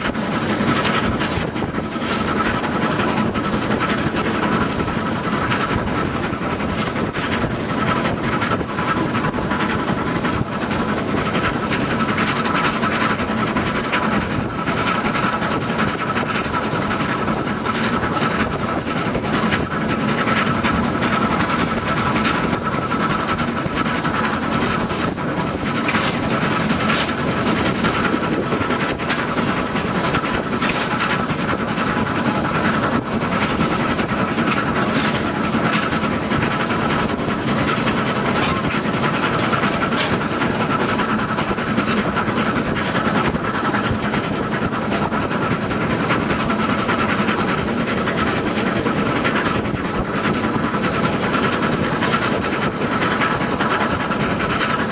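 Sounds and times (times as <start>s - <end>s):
vehicle engine drone: 0.0s - 54.8s
rattling and clicking: 0.0s - 54.9s.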